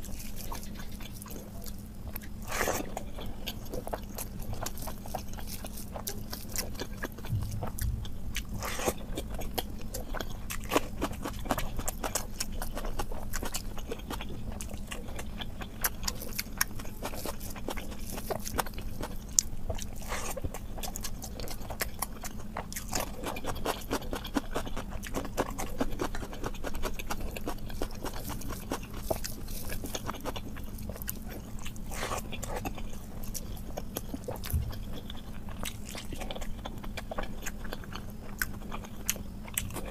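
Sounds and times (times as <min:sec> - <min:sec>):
mouth chewing and smacking: 0:00.0 - 0:39.9
steady low hum: 0:00.0 - 0:39.9.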